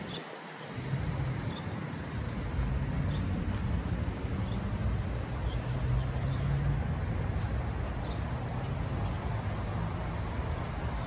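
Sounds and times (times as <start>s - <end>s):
vehicle engine humming: 0.8s - 10.9s.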